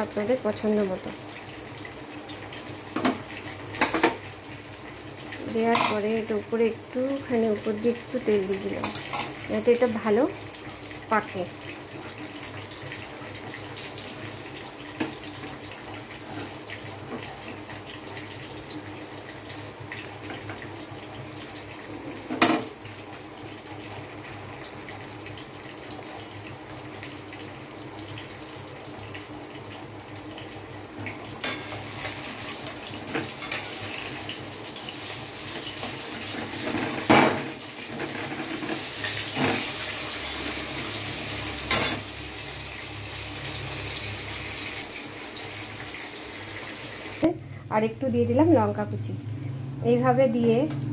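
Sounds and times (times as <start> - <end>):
batter sizzling in oil: 0.0 - 48.9.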